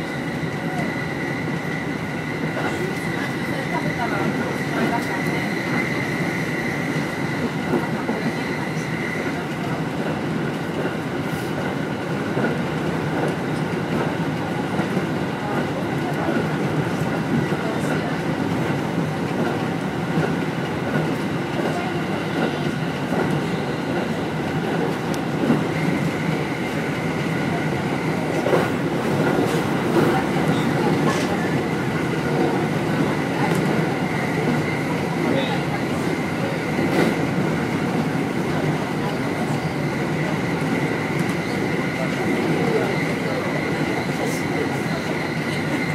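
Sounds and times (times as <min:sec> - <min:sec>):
rail clicks: 0:00.0 - 0:45.9
train wheels rumbling on rail: 0:00.0 - 0:45.9.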